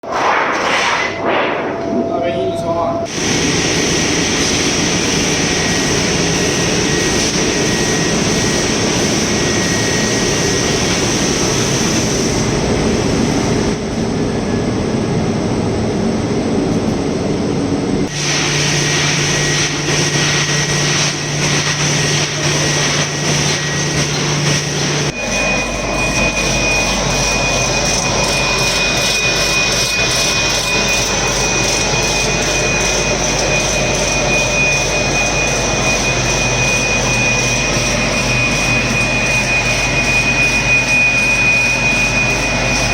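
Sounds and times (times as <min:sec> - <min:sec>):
high machine whine: 0:00.0 - 0:42.9
printing machinery running: 0:00.0 - 0:42.9.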